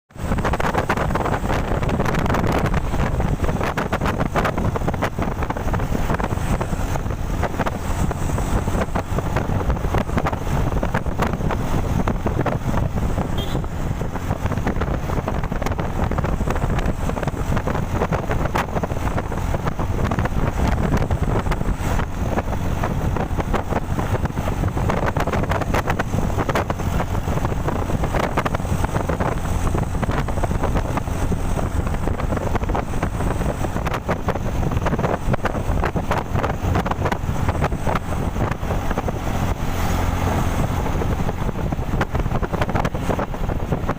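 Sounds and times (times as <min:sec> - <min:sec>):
truck engine and road noise: 0:00.0 - 0:43.9
wind buffeting microphone: 0:00.1 - 0:43.9.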